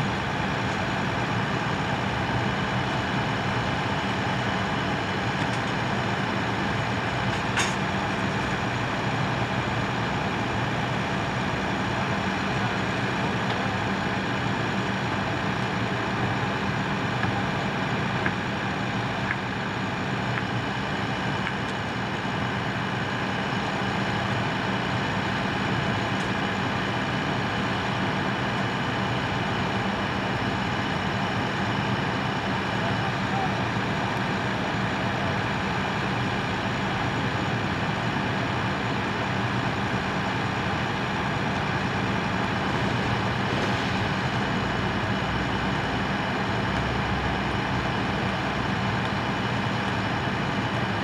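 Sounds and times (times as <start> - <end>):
engine humming steadily: 0.0 - 51.0.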